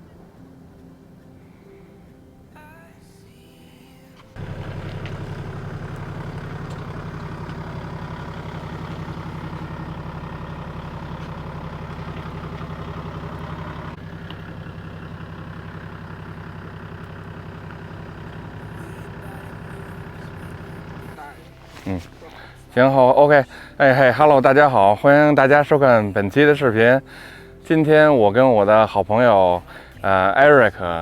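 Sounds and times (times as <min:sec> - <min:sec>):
engine idling: 0:04.2 - 0:31.0.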